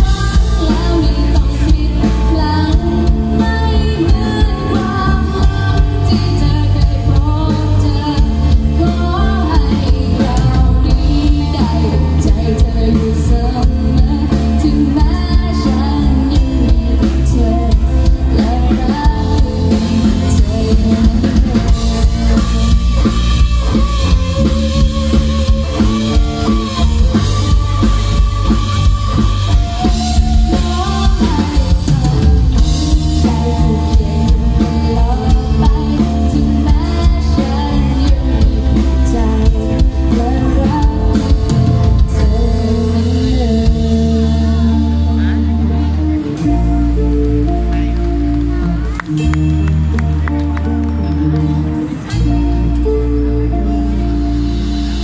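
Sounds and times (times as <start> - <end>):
woman singing: 0.0 - 54.4
live rock band playing: 0.0 - 55.0.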